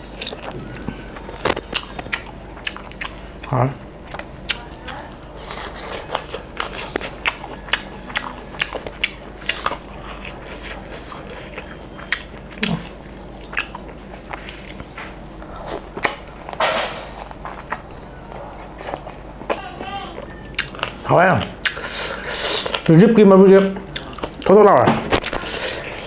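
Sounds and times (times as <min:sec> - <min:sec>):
person chewing: 0:00.0 - 0:22.9, 0:23.6 - 0:26.0.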